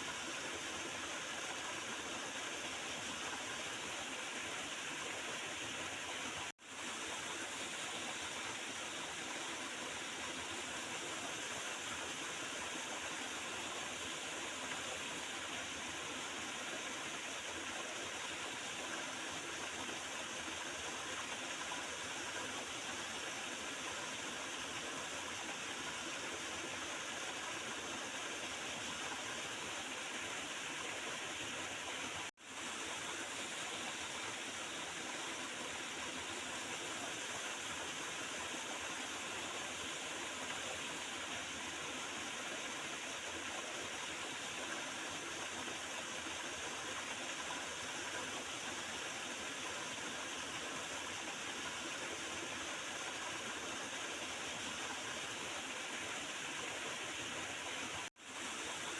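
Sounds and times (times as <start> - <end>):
small river gurgling: 0.0 - 58.9.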